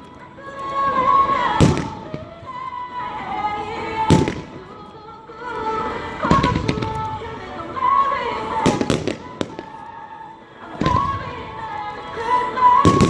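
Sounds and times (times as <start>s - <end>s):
fireworks bursting: 0.0s - 13.0s
music: 0.0s - 13.0s.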